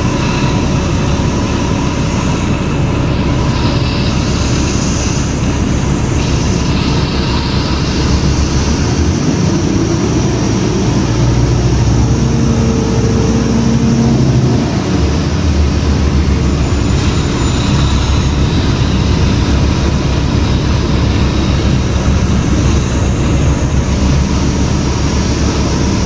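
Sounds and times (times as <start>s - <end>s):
bus diesel engine running: 0.0s - 26.0s
road rumble: 0.0s - 26.0s.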